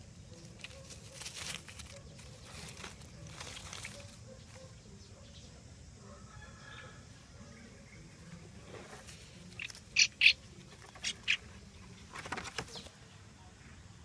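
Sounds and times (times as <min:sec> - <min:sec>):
small bird chirping: 0:00.0 - 0:05.7, 0:07.4 - 0:13.0.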